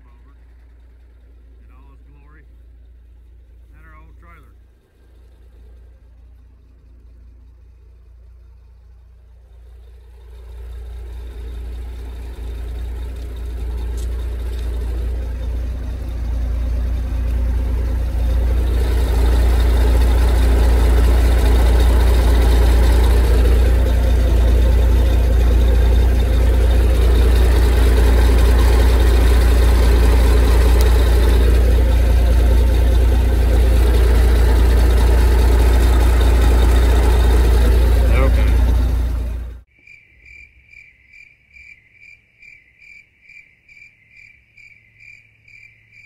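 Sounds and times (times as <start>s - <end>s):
diesel truck engine running: 0.0s - 39.7s.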